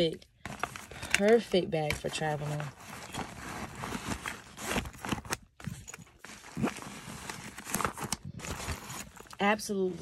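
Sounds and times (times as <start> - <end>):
nylon bag rustling: 0.0 - 10.0
handling scrapes and clicks: 0.4 - 9.4.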